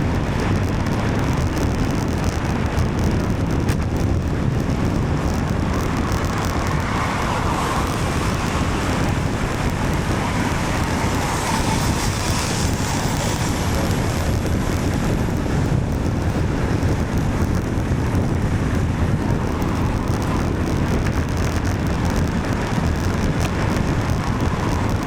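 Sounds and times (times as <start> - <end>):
car traffic on wet road: 0.0 - 25.0
rain: 0.0 - 25.0
wind noise on microphone: 0.0 - 25.0.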